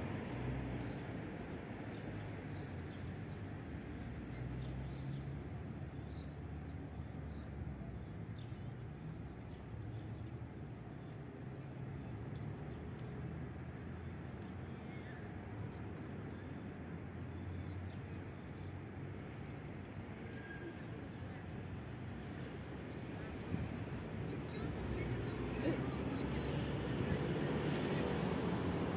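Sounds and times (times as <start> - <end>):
low rumble of city noise: 0.0 - 28.9.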